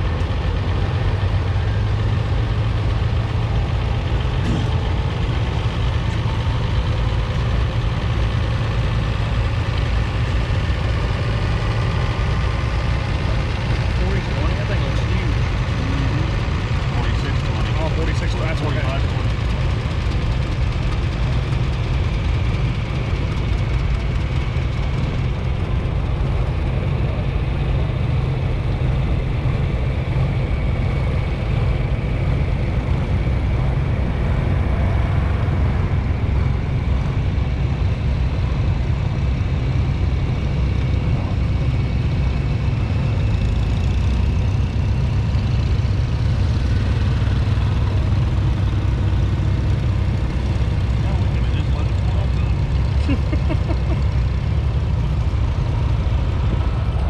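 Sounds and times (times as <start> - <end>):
engine idling: 0.0 - 57.0
tractors running past: 0.0 - 57.0.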